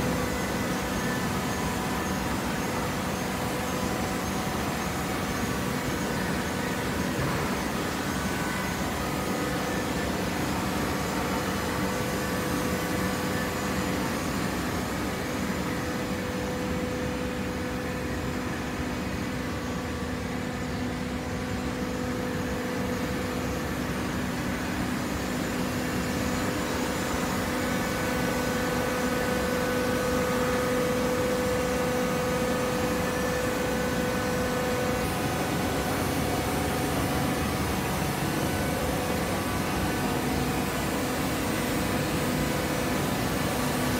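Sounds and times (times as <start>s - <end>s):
baling machine hum and whine: 0.0s - 43.9s.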